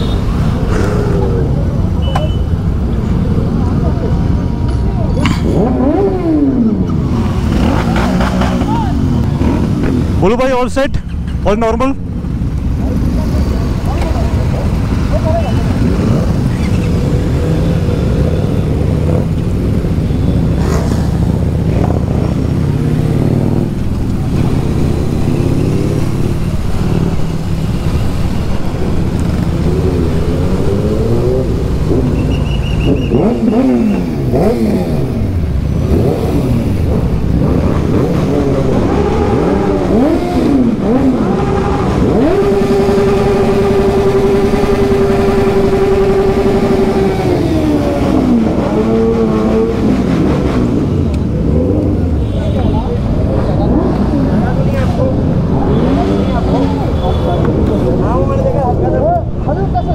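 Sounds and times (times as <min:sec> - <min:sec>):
motorcycle engines: 0:00.0 - 0:59.9.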